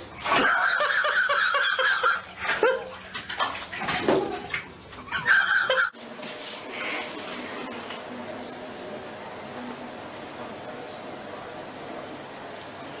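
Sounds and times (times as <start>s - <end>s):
water splashing in bathtub: 0.0s - 13.0s.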